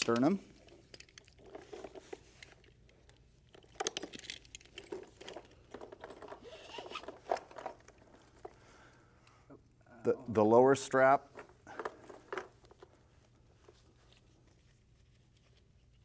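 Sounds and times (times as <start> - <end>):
nylon straps rustling: 0.0 - 9.2, 11.2 - 16.0.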